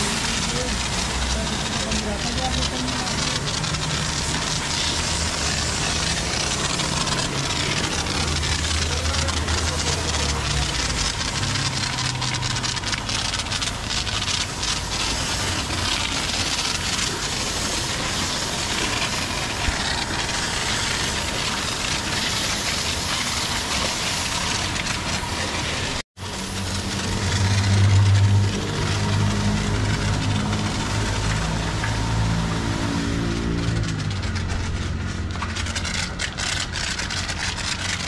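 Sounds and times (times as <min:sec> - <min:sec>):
pressure washer motor humming: 0:00.0 - 0:38.0
spraying water hiss: 0:00.0 - 0:38.0.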